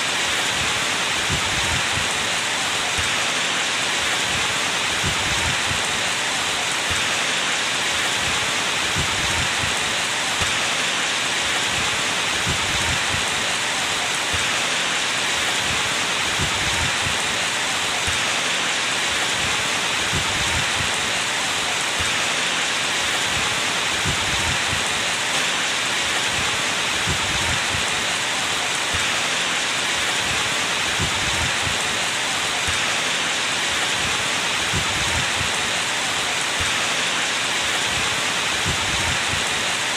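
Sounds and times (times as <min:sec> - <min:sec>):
heavy rain hissing: 0:00.0 - 0:39.9
raindrops thudding on surface: 0:00.4 - 0:03.5, 0:04.2 - 0:07.4, 0:08.0 - 0:14.8, 0:15.5 - 0:22.4, 0:23.0 - 0:37.0, 0:37.6 - 0:39.7.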